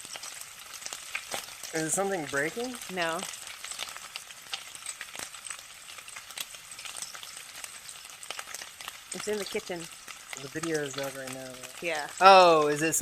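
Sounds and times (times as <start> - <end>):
bacon sizzling in a pan: 0.0 - 13.0
fat crackling and popping: 0.0 - 13.0.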